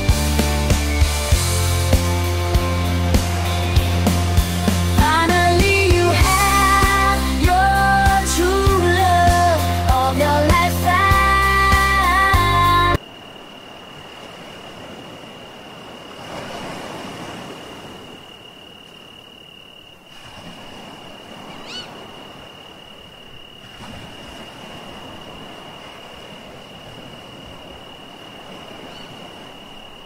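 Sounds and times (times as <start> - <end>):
sea waves washing ashore: 0.0 - 30.0.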